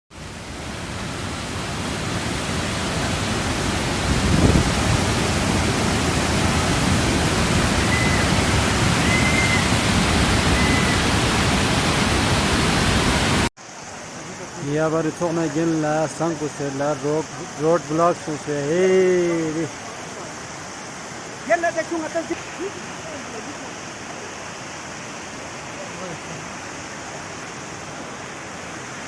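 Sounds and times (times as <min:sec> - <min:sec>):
roar of rushing floodwater: 0:00.1 - 0:29.0.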